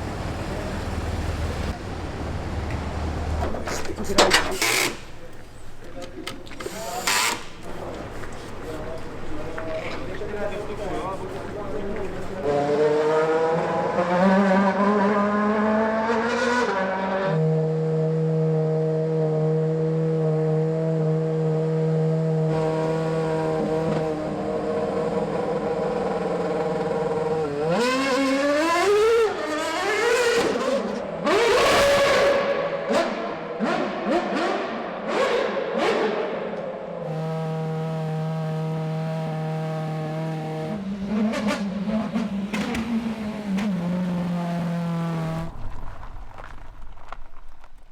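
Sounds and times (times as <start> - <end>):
engine crackles: 0.0 - 15.1, 22.3 - 36.2, 37.0 - 47.9
racing car engine revving: 0.0 - 46.6.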